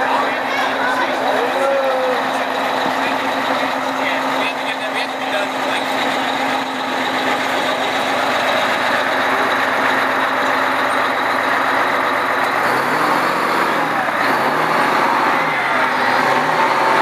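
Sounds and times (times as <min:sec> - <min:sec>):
fire engine idling: 0:00.0 - 0:17.0.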